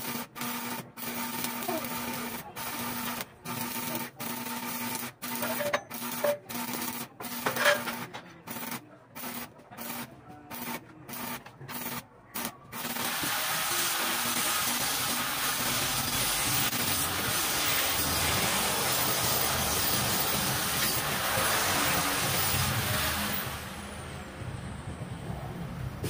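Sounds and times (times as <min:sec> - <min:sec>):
arc welding hiss: 0:00.0 - 0:24.1.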